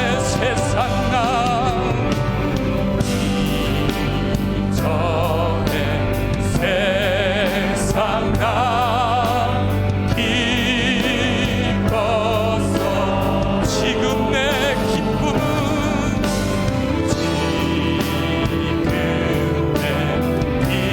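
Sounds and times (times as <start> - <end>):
bass guitar: 0.0 - 20.9
keyboard: 0.0 - 20.9
singers with wide vibrato: 0.0 - 20.9
steady drum beat: 0.0 - 20.9.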